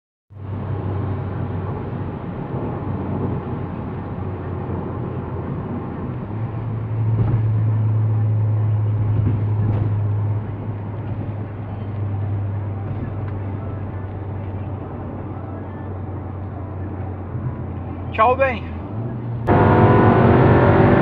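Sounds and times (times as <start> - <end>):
tyre and road noise: 0.3 - 21.0
car engine drone: 0.4 - 21.0.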